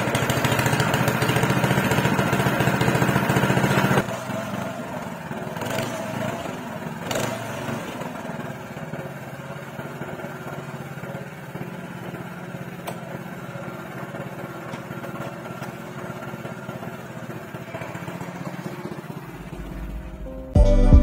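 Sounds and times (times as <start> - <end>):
small petrol engine idling: 0.0 - 20.6.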